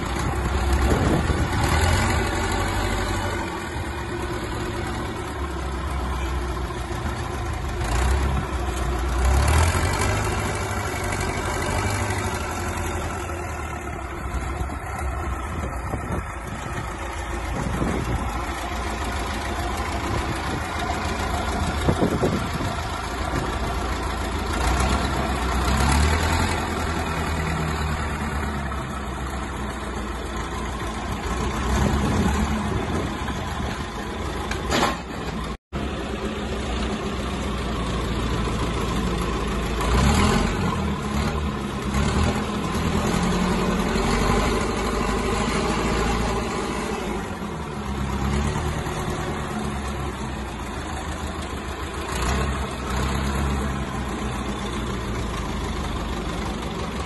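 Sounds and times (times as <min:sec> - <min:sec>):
wheel loader engine running: 0:00.0 - 0:57.0.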